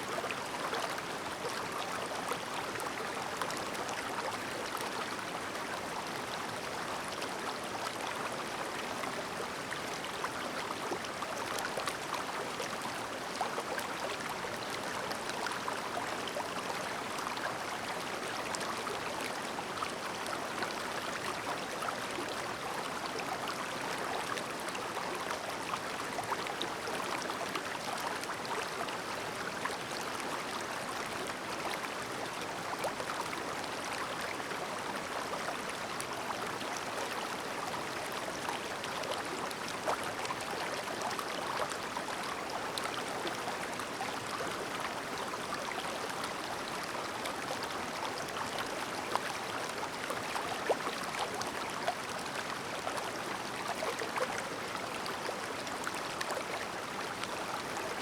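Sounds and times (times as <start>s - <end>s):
stream babbling over rocks: 0.1s - 58.0s.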